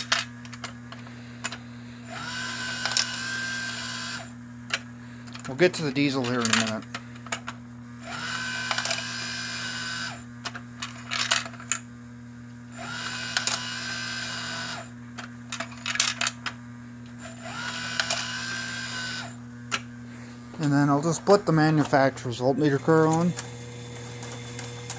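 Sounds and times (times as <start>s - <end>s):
steady electrical hum: 0.0s - 24.9s.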